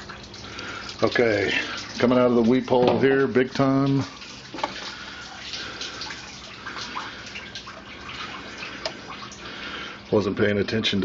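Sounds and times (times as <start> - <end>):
coolant splashing: 0.0 - 11.0.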